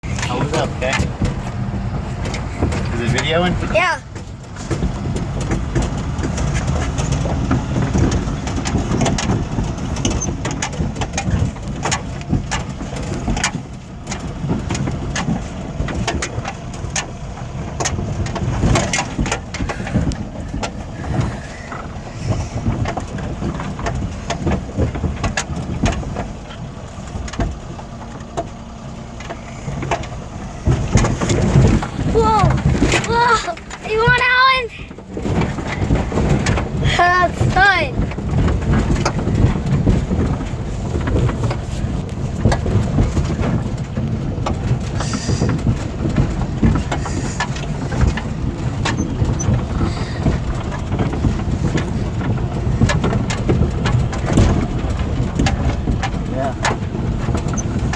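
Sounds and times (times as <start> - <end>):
truck engine rumble: 0.0 - 57.9
truck knocking and rattling: 0.0 - 57.9.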